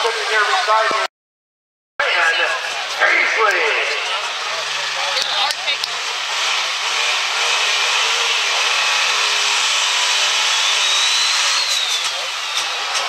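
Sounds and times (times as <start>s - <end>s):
diesel truck engine roaring: 0.0s - 1.1s, 2.0s - 13.0s.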